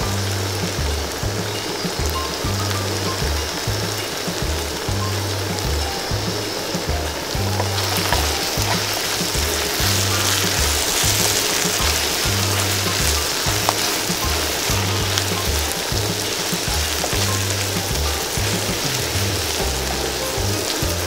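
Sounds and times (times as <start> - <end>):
background music with bass line: 0.0 - 21.0
meat sizzling in hot oil: 0.0 - 21.0.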